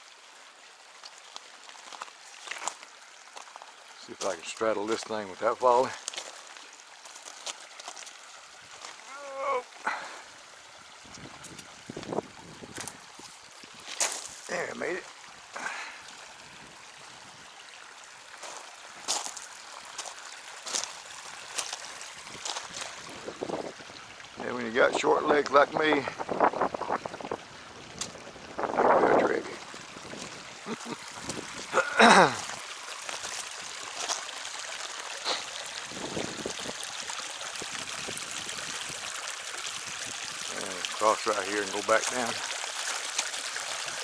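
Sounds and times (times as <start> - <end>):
creek babbling over rocks: 0.0 - 44.0.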